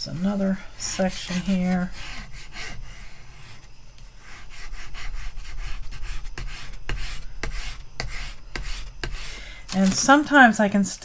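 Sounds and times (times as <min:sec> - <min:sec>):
block rubbing on plastic film: 0:00.9 - 0:10.1.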